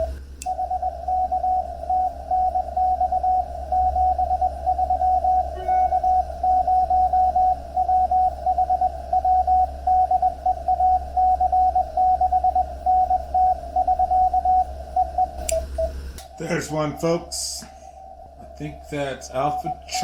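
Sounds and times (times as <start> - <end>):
morse code beeps: 0.0 - 20.0
steady low hum: 0.0 - 20.0.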